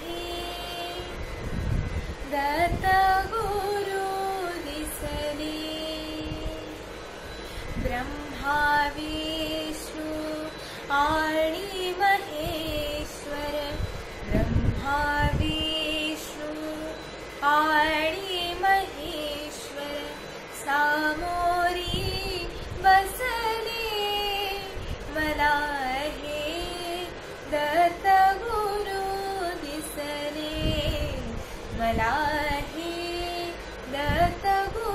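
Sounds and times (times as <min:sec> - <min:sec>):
woman singing devotional song: 0:00.0 - 0:34.9.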